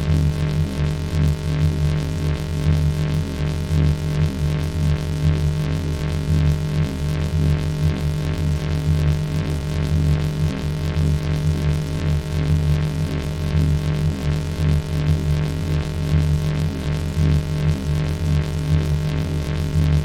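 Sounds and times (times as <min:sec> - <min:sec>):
pulsing electronic buzzing drone: 0:00.0 - 0:20.0.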